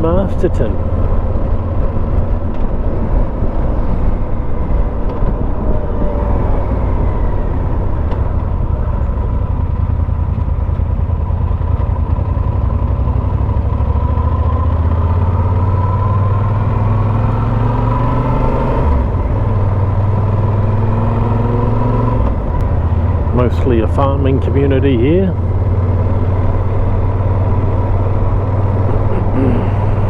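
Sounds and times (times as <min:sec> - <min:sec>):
motorcycle engine running: 0:00.0 - 0:18.2, 0:18.9 - 0:30.0.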